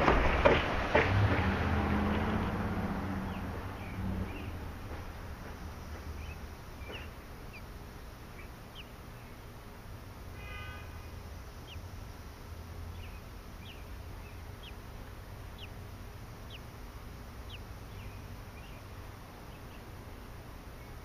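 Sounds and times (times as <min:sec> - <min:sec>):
low background rumble: 0:00.0 - 0:21.0
hatchlings begging peeps: 0:03.2 - 0:21.0.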